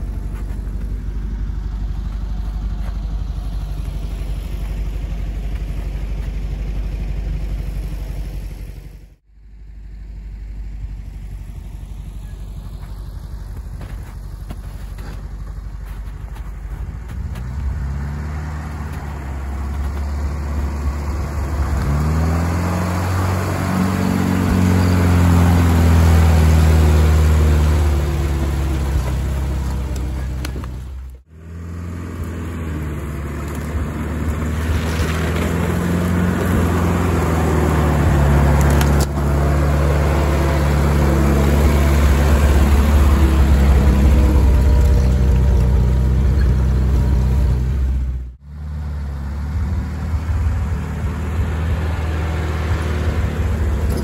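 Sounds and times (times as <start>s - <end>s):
engine running under load: 0.0s - 54.0s.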